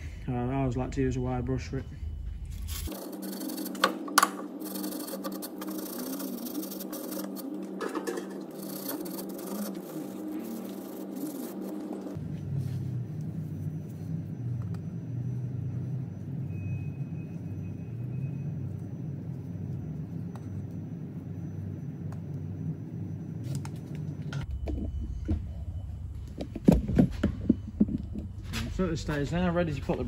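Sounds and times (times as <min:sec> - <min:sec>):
low hum: 0:00.0 - 0:30.0
low mechanical rumble: 0:00.0 - 0:30.0.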